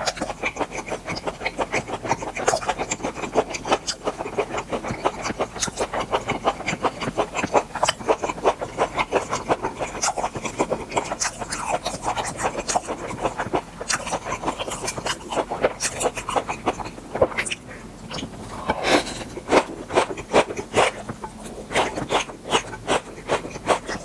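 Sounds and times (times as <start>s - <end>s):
chewing with mouth clicks: 0.0s - 24.0s.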